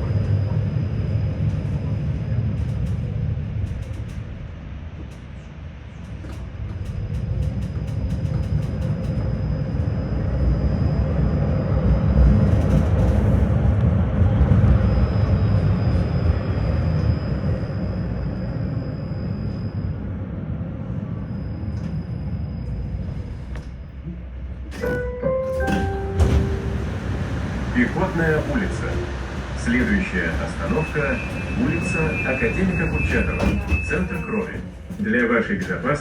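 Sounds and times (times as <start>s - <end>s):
tram wheels rumbling on rails: 0.0s - 36.0s.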